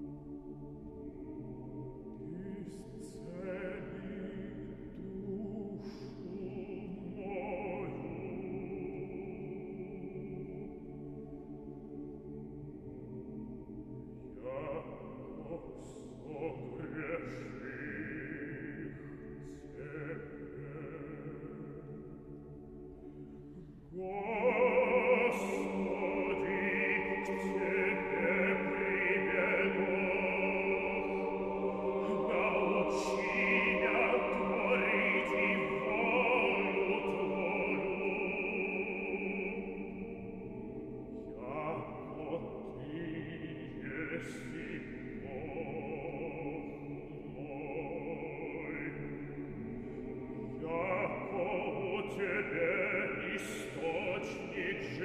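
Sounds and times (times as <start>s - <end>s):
choir singing a cappella chant: 0.0s - 55.0s.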